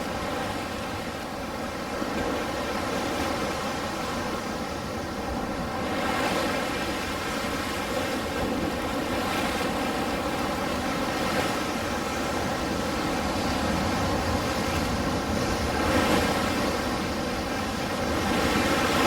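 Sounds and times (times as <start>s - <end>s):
ocean surf: 0.0s - 19.0s.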